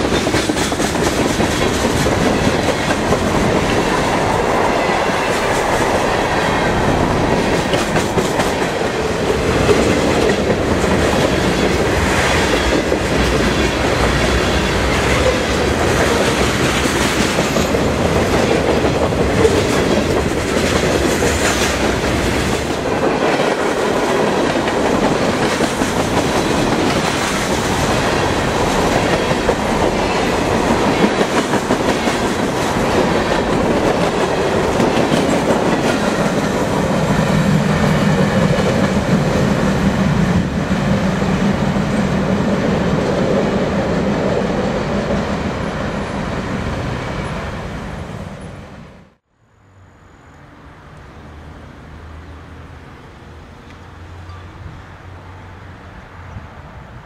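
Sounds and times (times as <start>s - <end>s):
steel wheels rumbling on rail: 0.0s - 49.2s.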